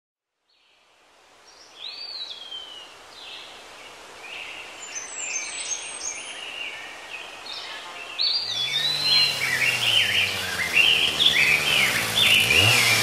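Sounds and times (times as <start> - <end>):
background hiss: 0.4 - 13.0
birds chirping: 1.5 - 13.0
birds calling: 1.6 - 13.0.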